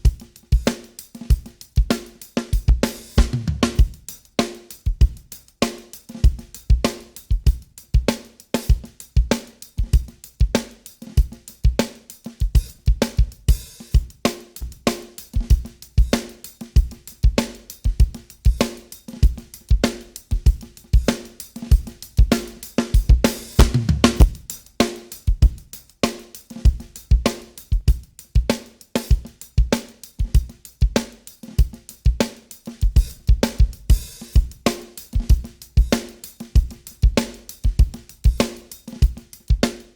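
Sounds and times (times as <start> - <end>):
crunchy drum kit groove: 0.0 - 39.9.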